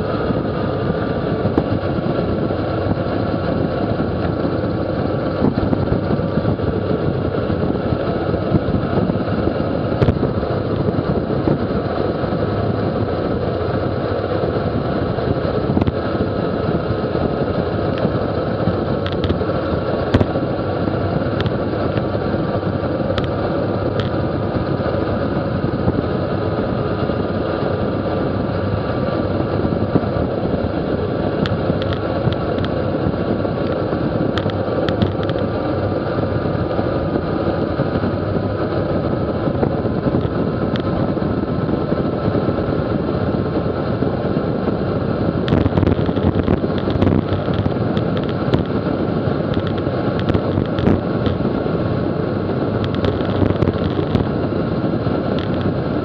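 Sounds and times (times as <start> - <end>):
bicycle tyre noise on asphalt: 0.0 - 56.0
wind rushing over microphone: 0.0 - 56.0.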